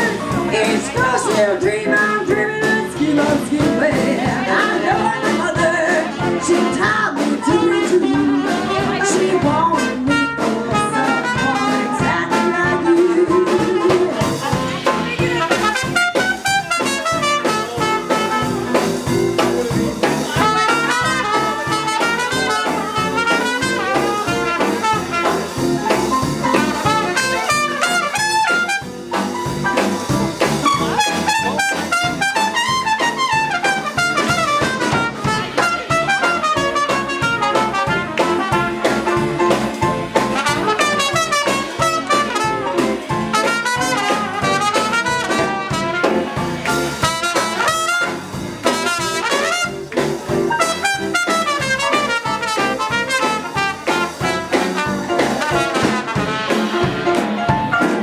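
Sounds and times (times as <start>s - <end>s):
jazz band playing swing: 0.0s - 58.0s
trumpet: 6.4s - 19.1s, 20.0s - 58.0s.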